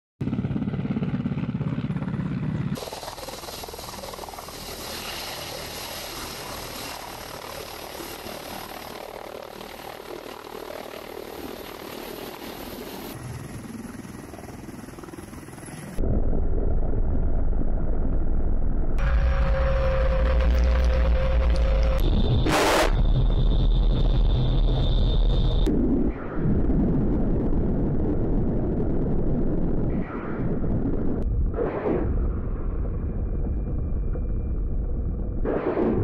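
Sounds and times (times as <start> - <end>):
helicopter rotor and engines: 0.2 - 36.0
loud low helicopter rumble: 0.2 - 36.0
high turbine whine: 0.8 - 36.0.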